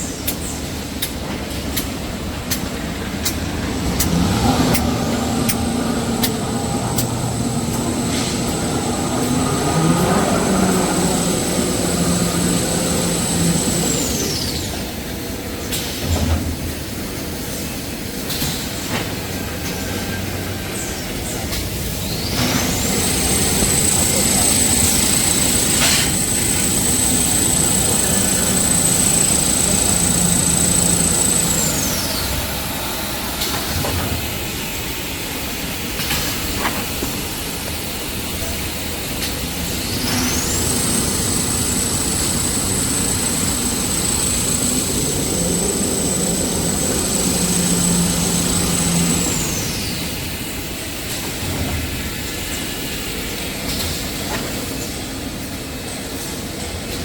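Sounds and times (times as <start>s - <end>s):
production line mechanical clatter: 0.0s - 57.0s
high machine whine: 2.1s - 16.4s, 19.3s - 56.8s.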